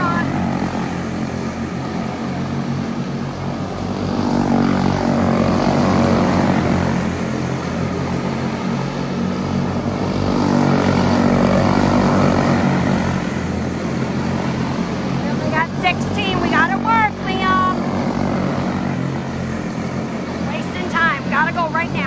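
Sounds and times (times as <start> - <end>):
race car engines buzzing: 0.0 - 22.0.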